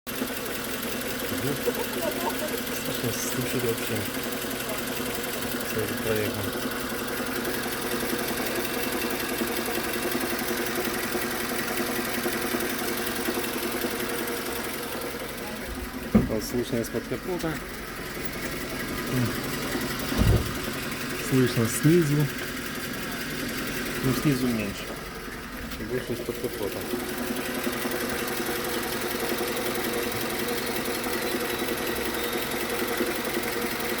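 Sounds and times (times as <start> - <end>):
car engine idling: 0.1 - 34.0
rapid engine knock: 0.1 - 34.0.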